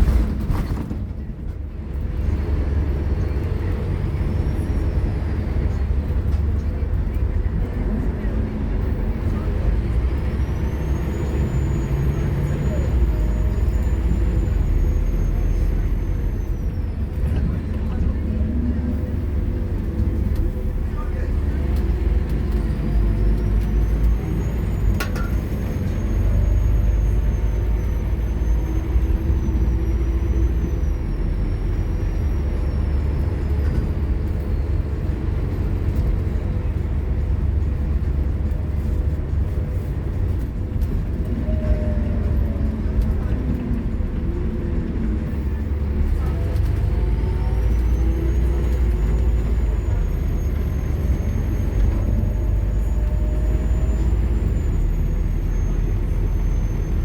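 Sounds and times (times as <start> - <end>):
diesel bus engine rumble: 0.0 - 57.0.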